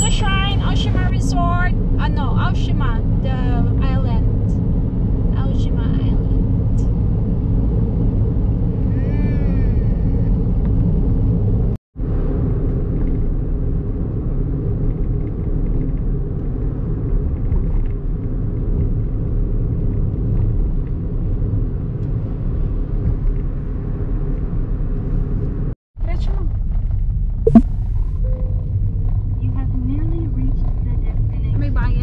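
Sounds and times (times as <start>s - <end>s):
car cabin road and engine rumble: 0.0s - 8.9s, 10.3s - 32.0s.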